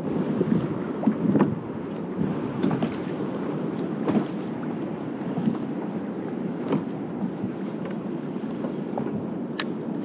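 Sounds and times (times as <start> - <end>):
waves slapping a plastic hull: 0.0 - 10.0
wind on microphone: 0.0 - 10.0.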